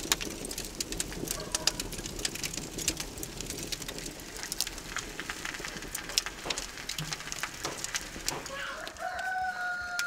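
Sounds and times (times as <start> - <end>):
hiss of burning logs: 0.0 - 10.0
wood fire crackling and popping: 0.0 - 10.0.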